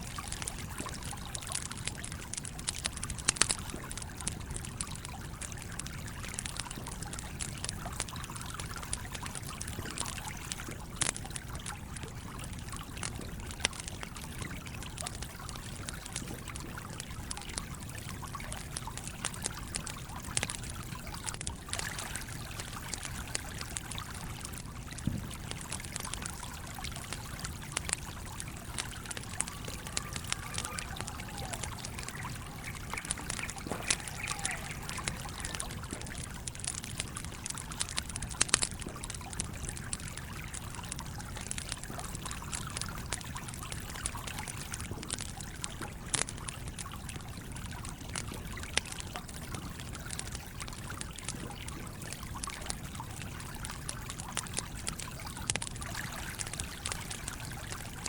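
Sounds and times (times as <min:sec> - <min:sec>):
campfire crackling and popping: 0:00.0 - 0:58.0
small stream running: 0:00.0 - 0:58.0.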